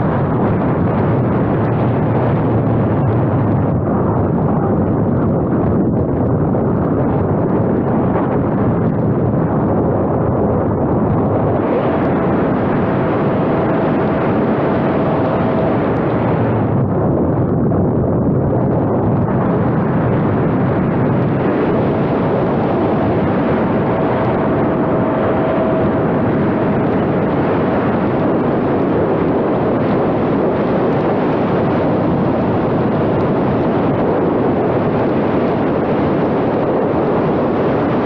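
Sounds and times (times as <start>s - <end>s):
plane motor whine: 0.0s - 38.0s
wind rushing over microphone: 0.0s - 38.0s.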